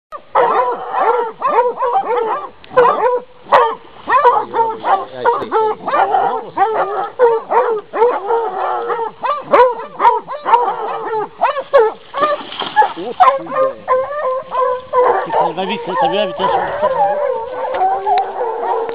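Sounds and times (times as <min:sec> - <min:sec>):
hounds baying: 0:00.1 - 0:18.9.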